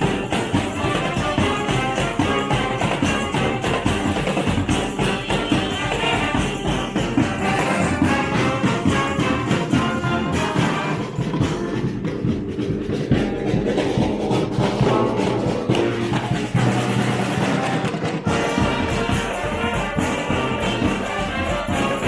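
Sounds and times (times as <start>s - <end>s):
brass band playing: 0.0s - 22.0s
drum and percussion beat: 0.0s - 22.0s.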